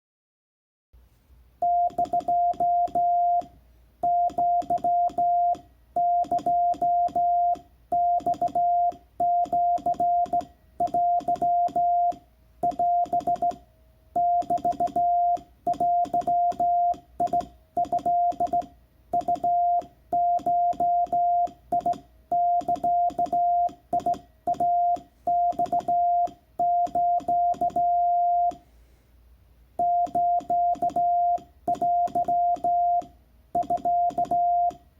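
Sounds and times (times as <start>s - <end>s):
morse code tone: 1.6s - 13.6s, 14.2s - 28.6s, 29.8s - 34.8s.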